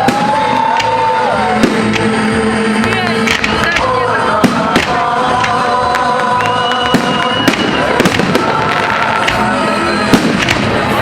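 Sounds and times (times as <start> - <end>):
background music: 0.0 - 11.0
fireworks bangs: 0.0 - 11.0.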